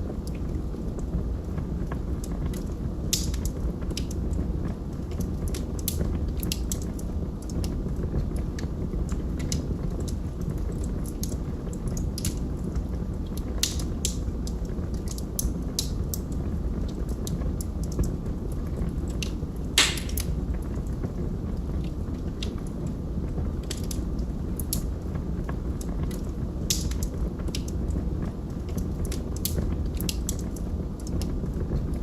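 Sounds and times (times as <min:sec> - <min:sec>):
burning wood crackling and popping: 0:00.0 - 0:32.0
log fire rumbling: 0:00.0 - 0:32.0.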